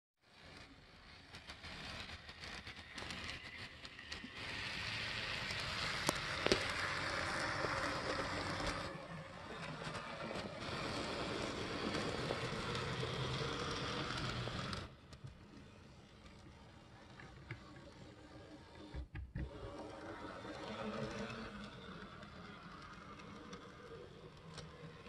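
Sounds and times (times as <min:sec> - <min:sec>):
model train motor whirring: 0:00.3 - 0:25.0.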